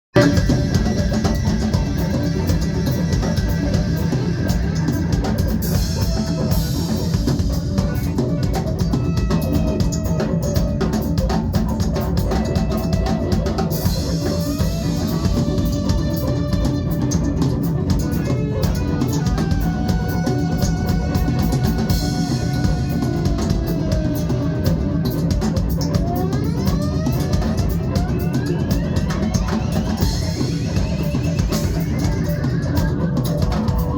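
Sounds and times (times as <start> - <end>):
live band playing: 0.1 - 33.9.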